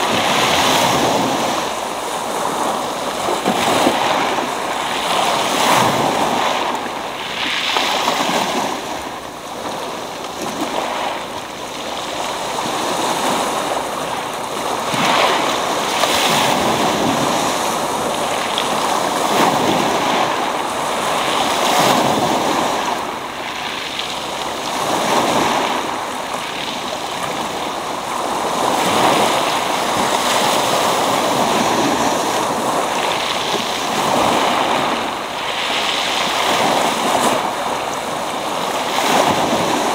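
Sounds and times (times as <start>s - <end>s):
waves breaking on pebble beach: 0.0s - 39.9s.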